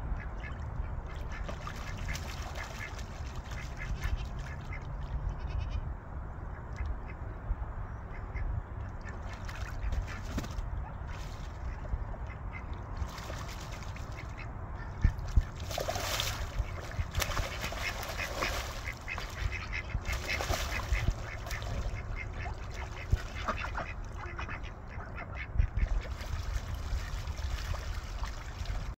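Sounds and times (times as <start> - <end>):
steady low rumble: 0.0 - 28.9
ducks quacking: 0.2 - 5.8, 8.1 - 27.7
water splashing: 0.4 - 5.3, 8.9 - 28.9.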